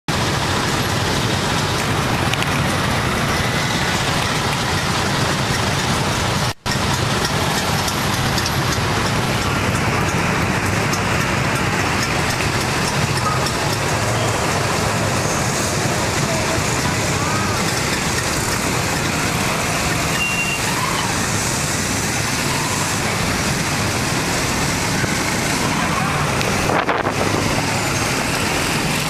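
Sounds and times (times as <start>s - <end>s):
road noise: 0.0s - 29.0s
motorcycle engine: 0.1s - 29.0s.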